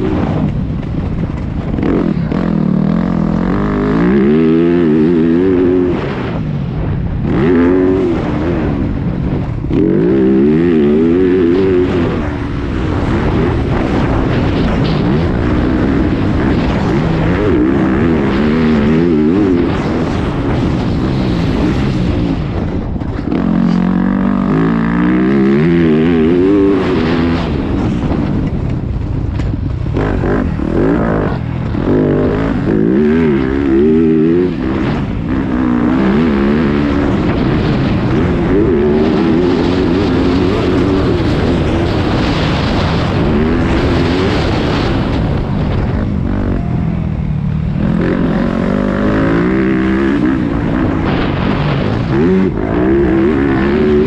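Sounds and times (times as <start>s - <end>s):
motocross engine revving: 0.0s - 28.9s, 29.7s - 54.0s.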